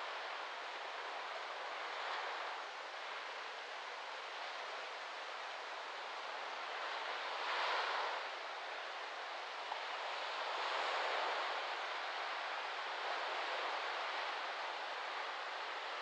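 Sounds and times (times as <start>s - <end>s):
waves lapping on sandy beach: 0.0s - 16.0s.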